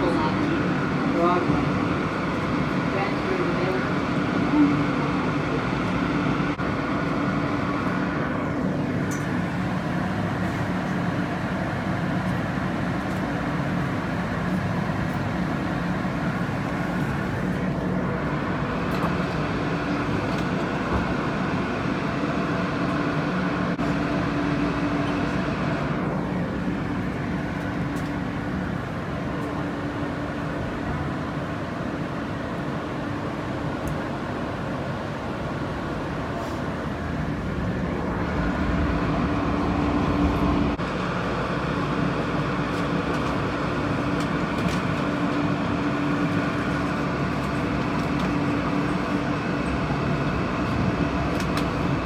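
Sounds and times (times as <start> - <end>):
steady low hum: 0.0 - 52.0
subway wheels rumbling on rail: 0.0 - 52.0.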